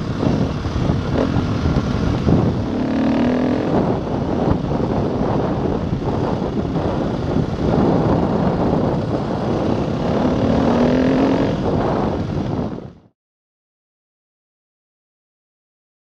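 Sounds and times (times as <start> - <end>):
dirt bike engine running: 0.0 - 13.1.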